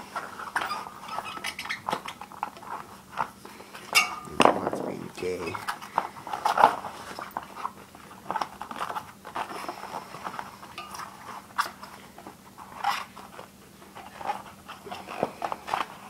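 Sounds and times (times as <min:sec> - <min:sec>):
rubber tire rubbing and crinkling: 0:00.0 - 0:16.0.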